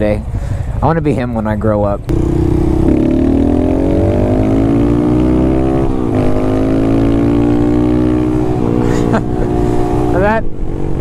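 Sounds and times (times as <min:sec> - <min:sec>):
motorcycle engine accelerating: 0:02.1 - 0:11.0.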